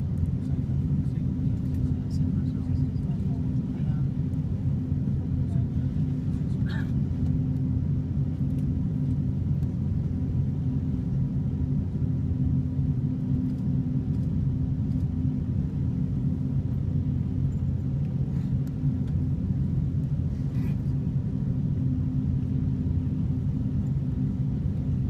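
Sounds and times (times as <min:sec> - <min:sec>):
jet cabin rumble on takeoff: 0:00.0 - 0:25.0.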